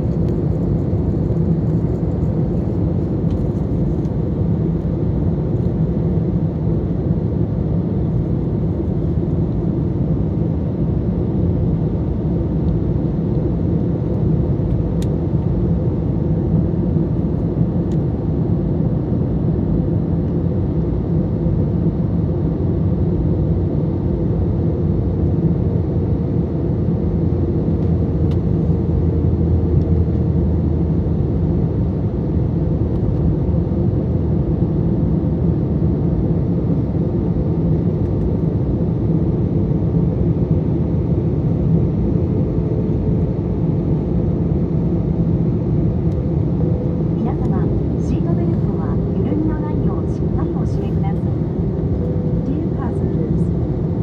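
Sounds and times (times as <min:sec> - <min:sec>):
airplane cabin engine rumble: 0:00.0 - 0:54.0
constant hum: 0:00.0 - 0:54.0.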